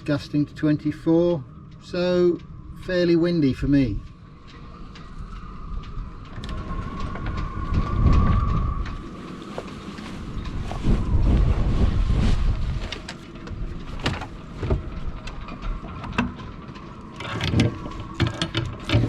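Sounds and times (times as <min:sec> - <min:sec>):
wind buffeting microphone: 0:00.0 - 0:19.0
wind whistling through rigging: 0:00.0 - 0:19.0.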